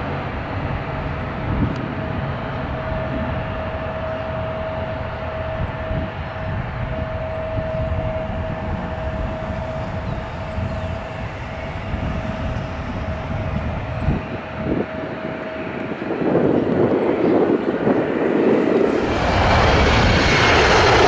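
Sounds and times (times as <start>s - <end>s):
aircraft engine roar: 0.0s - 21.0s
aircraft engine rumble: 0.0s - 21.0s
aircraft engine whine: 0.0s - 21.0s.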